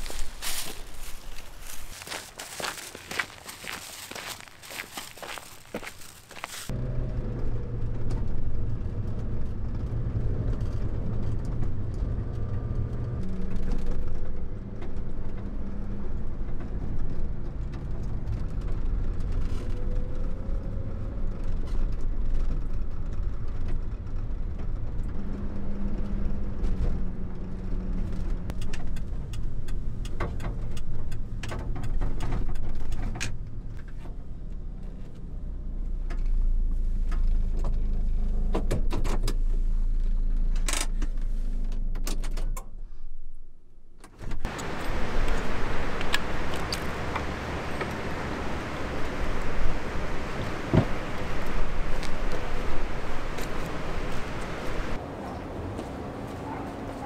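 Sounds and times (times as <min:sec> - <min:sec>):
road noise: 0:00.0 - 0:42.4, 0:44.1 - 0:57.0
small truck engine drone: 0:00.0 - 0:42.5, 0:44.1 - 0:56.7.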